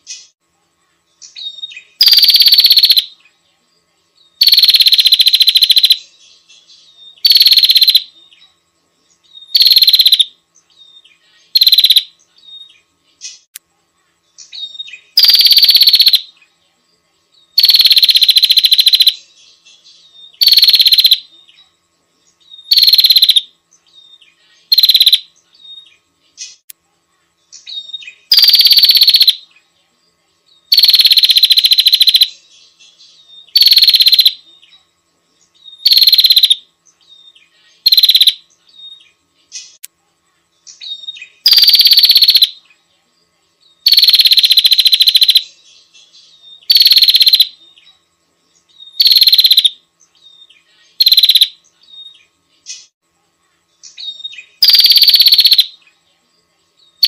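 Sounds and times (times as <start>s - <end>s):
faint bird chirps: 0.0s - 57.0s.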